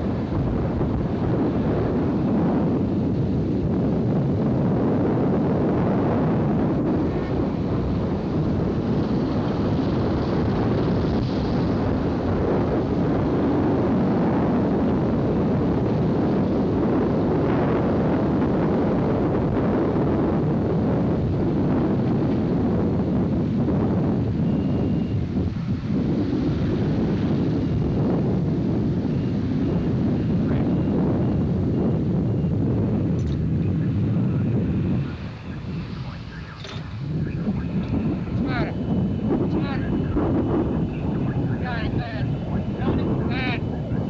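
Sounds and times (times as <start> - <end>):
road and engine noise: 0.0 - 44.0
wind buffeting microphone: 0.0 - 44.0.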